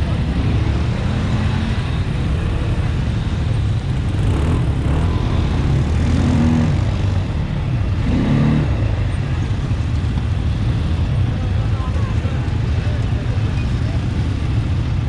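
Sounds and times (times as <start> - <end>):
atv engine running: 0.0 - 15.0
road and wind noise: 0.0 - 15.0.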